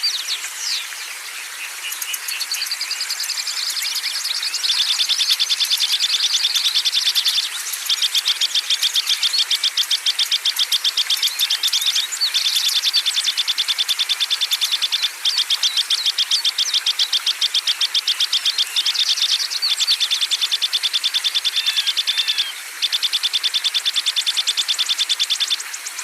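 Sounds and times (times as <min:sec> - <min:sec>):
songbirds chirping and whistling: 0:00.0 - 0:26.0.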